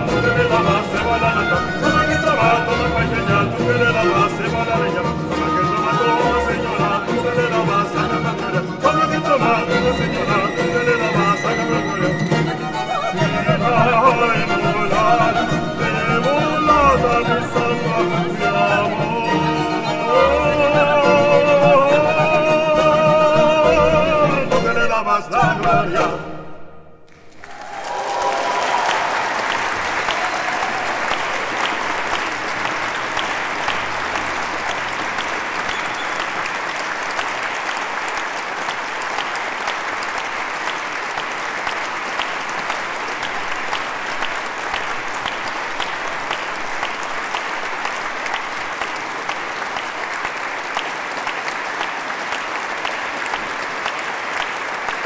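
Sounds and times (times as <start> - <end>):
audience applause: 0.0 - 24.2, 27.1 - 55.0.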